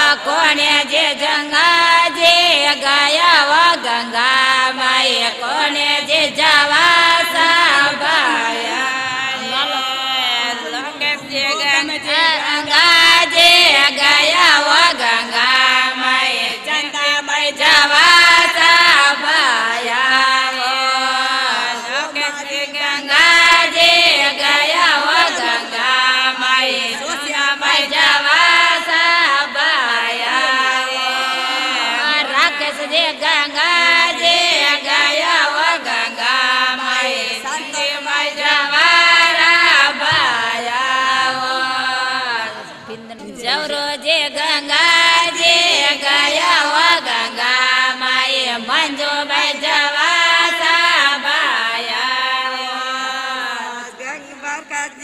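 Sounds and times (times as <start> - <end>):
women singing a folk song: 0.0 - 55.0.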